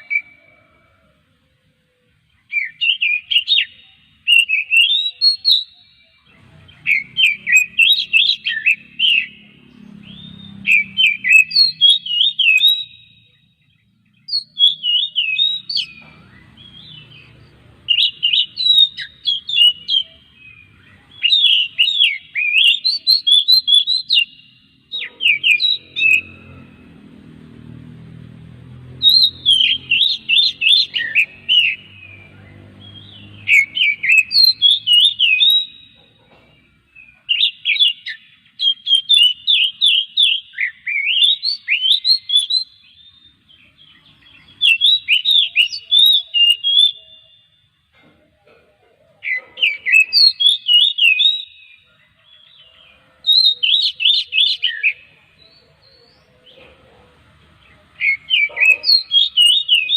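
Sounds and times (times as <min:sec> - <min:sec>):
bird singing whistled notes: 0:00.0 - 0:01.0, 0:02.3 - 0:26.9, 0:28.8 - 0:47.8, 0:49.2 - 0:56.6, 0:57.8 - 0:59.9.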